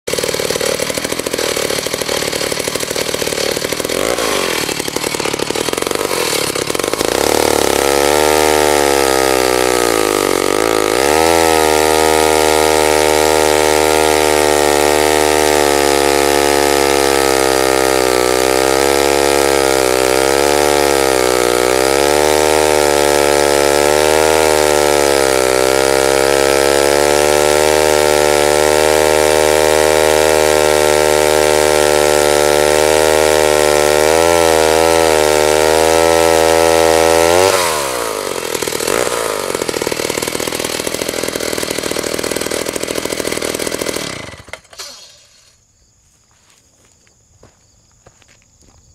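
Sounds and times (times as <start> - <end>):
chainsaw cutting log: 0.0 - 45.7.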